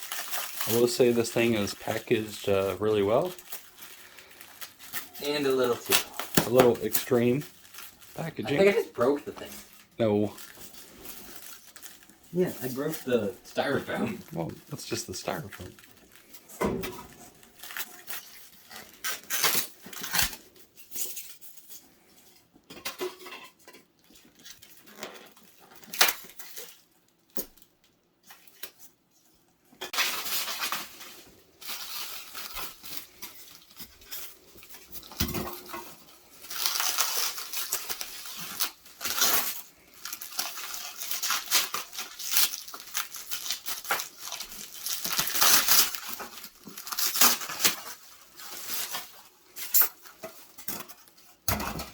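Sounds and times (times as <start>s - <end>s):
packaging tearing and crinkling: 0.0s - 21.8s, 24.0s - 28.9s, 30.0s - 51.9s.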